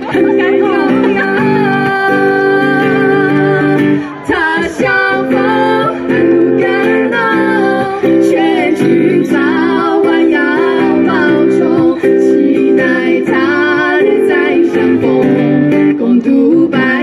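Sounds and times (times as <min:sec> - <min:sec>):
acoustic guitar chords: 0:00.0 - 0:17.0
woman singing: 0:00.0 - 0:17.0.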